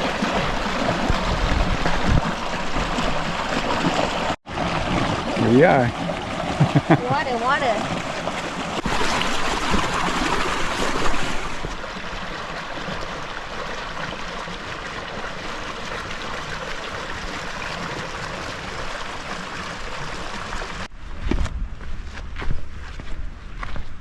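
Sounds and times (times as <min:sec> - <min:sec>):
creek rushing over rocks: 0:00.0 - 0:20.9.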